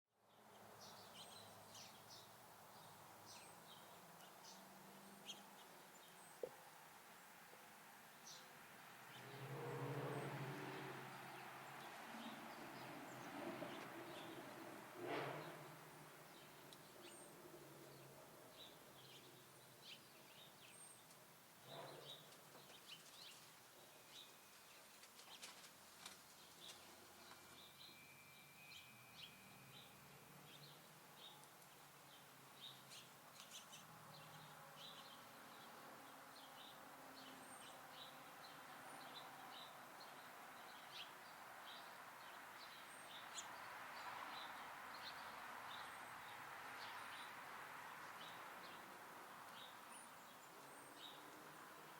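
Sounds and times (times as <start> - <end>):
songbirds chirping: 0.2 - 51.9.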